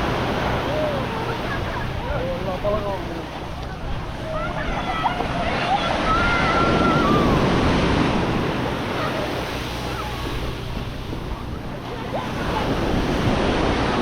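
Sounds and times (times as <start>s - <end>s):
sea waves washing onto beach: 0.0s - 14.0s
wind buffeting microphone: 0.0s - 14.0s.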